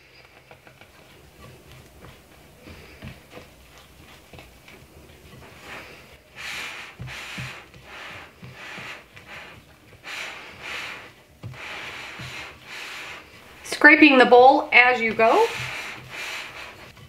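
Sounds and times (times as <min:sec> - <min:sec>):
spatula scraping dough in bowl: 0:00.0 - 0:17.0.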